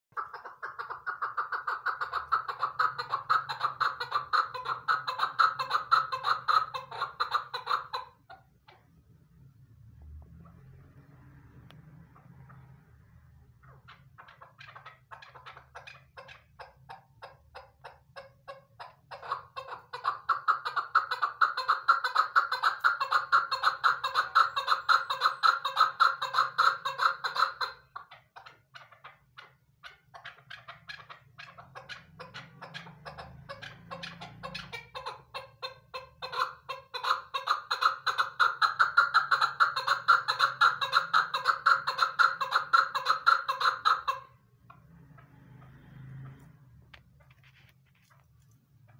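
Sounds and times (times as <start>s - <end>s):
partridge chuck calls: 0.1s - 8.9s, 13.6s - 44.8s.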